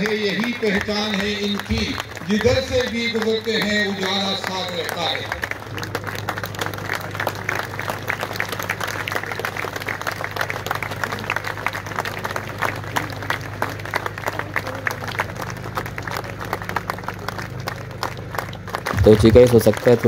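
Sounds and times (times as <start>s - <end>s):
crowd applauding: 0.0s - 20.0s
low hum: 0.0s - 20.0s.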